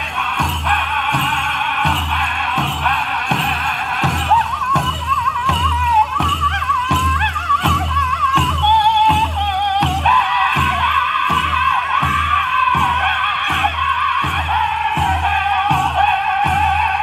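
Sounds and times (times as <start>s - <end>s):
large hand drum beating: 0.0s - 17.0s
men singing high wavering voices: 0.0s - 17.0s.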